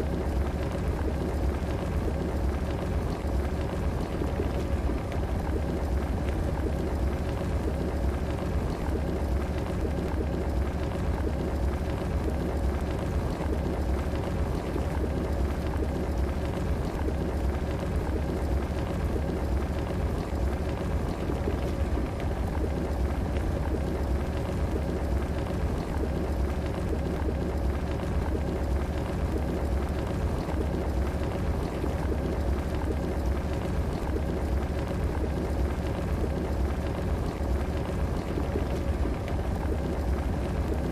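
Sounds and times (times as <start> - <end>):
electric kettle bubbling: 0.0 - 40.9.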